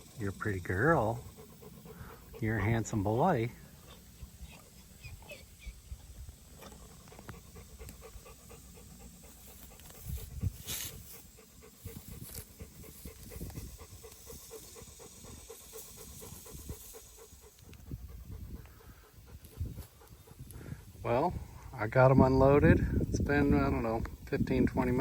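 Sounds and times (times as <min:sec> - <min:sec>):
dog panting: 0:00.0 - 0:21.6
rustle: 0:00.0 - 0:22.2.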